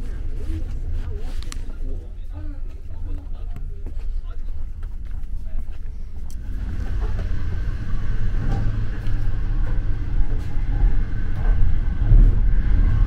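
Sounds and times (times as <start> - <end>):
train rumbling from inside carriage: 0.0 - 13.0.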